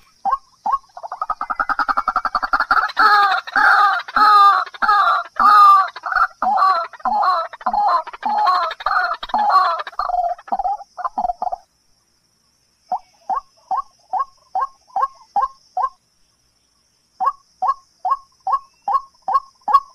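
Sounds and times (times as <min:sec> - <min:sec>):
bird calling: 0:00.0 - 0:11.7, 0:12.9 - 0:16.0, 0:17.2 - 0:19.9.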